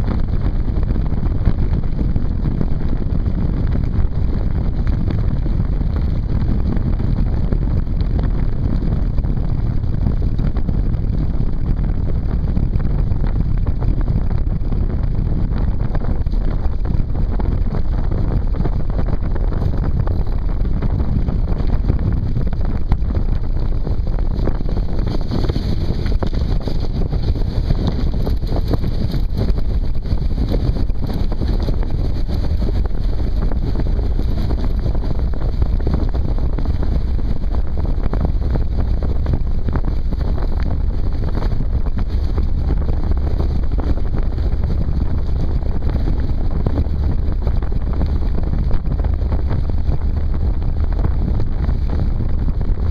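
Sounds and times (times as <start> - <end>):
deep rumble of craft running: 0.0 - 52.9
wind buffeting microphone: 0.0 - 52.9.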